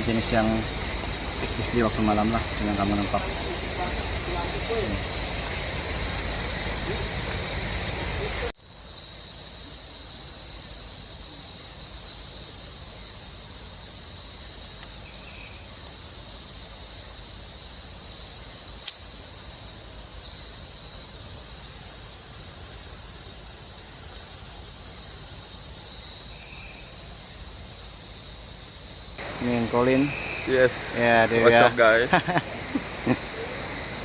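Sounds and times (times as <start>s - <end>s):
insects whining shrilly: 0.0s - 34.0s.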